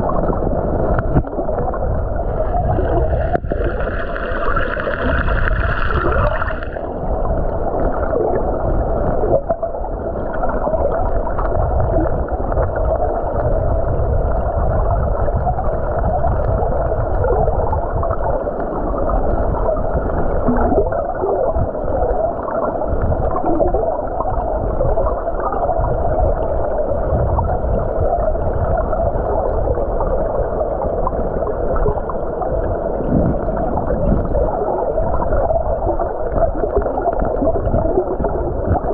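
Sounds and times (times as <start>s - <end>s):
muffled underwater rushing: 0.0s - 38.9s.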